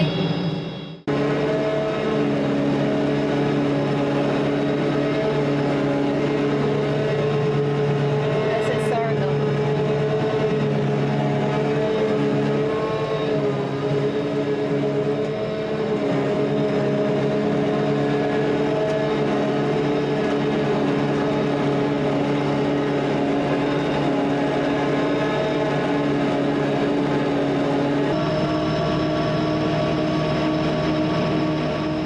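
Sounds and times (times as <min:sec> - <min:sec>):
farm machinery engine running: 0:00.0 - 0:32.0.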